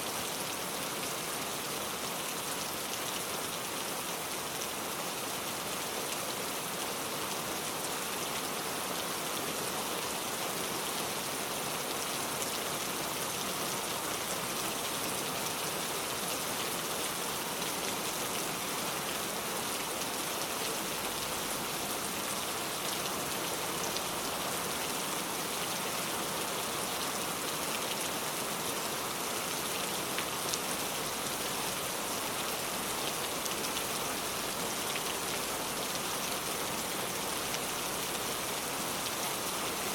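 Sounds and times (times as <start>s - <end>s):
rain falling on a car: 0.1s - 39.9s.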